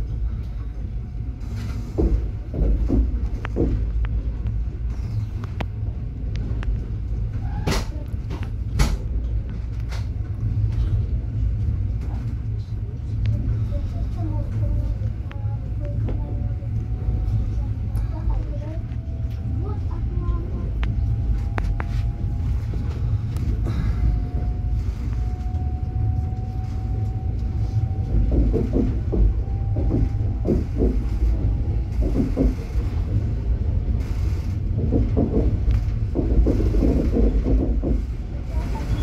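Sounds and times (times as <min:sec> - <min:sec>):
train clatter: 0:00.0 - 0:39.0
train wheels rumbling on rails: 0:00.0 - 0:39.0.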